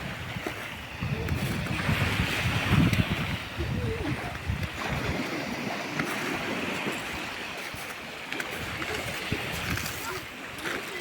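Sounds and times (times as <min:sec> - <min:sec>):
waves washing on shore: 0:00.0 - 0:11.0
wind rumbling on microphone: 0:00.0 - 0:11.0.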